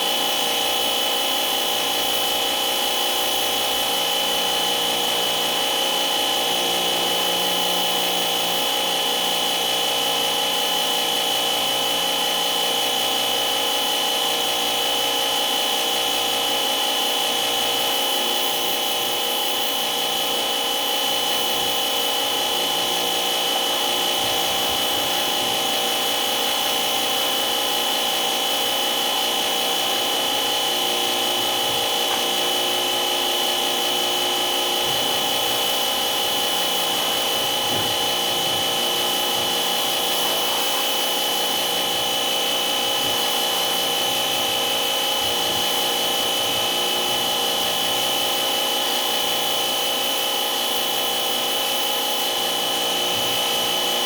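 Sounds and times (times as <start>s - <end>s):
power tool whining: 0.0s - 54.0s.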